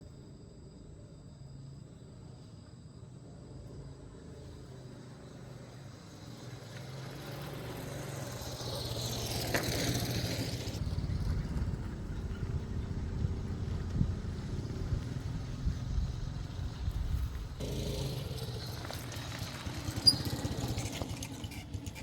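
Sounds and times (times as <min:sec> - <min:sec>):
vehicle engine hum: 0:01.0 - 0:22.0.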